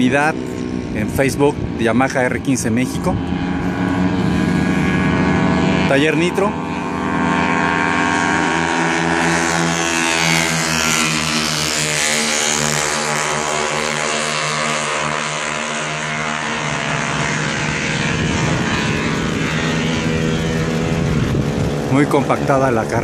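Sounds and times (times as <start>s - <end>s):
drone propellers humming: 0.0s - 23.0s.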